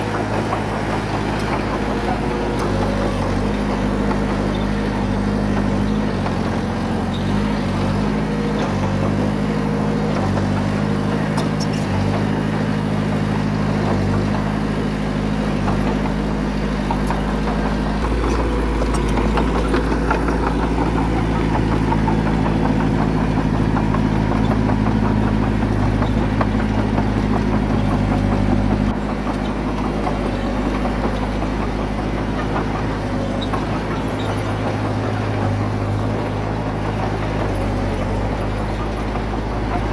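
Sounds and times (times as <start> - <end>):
diesel engine of construction machine: 0.0 - 39.9.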